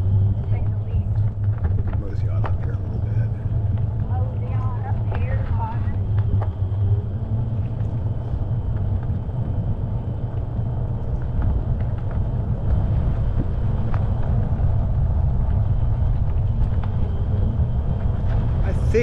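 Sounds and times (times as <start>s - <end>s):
low rumble of wind: 0.0s - 19.0s
road noise: 0.0s - 19.0s.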